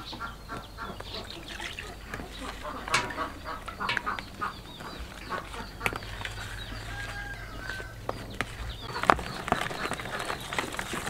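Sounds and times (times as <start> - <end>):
spoon stirring batter: 0.5 - 11.0.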